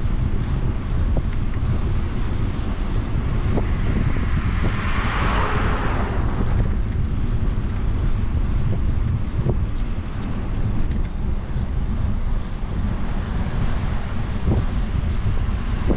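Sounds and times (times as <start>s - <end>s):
passing vehicle rush: 0.0s - 15.9s
wind buffeting microphone: 0.0s - 15.9s.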